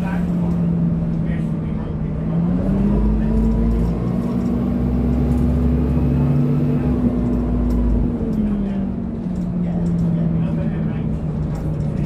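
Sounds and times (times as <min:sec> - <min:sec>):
bus diesel engine: 0:00.0 - 0:12.0.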